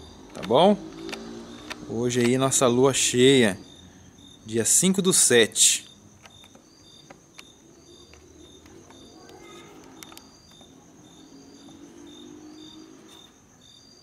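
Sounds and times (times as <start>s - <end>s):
cricket trilling: 0.0s - 14.0s
insects chirping in pulses: 0.0s - 14.0s.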